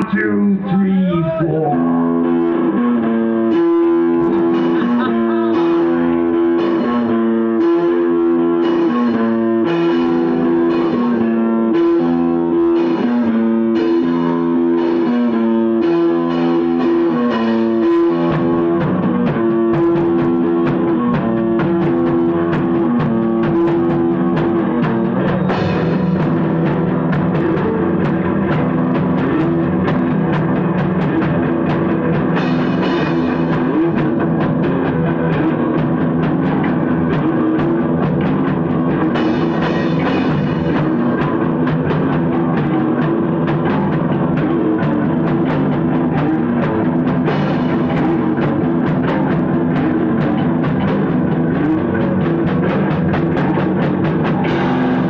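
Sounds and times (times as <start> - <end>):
bass guitar: 0.0 - 55.0
electric guitar chord riff: 0.0 - 55.0
drum kit: 1.1 - 55.0.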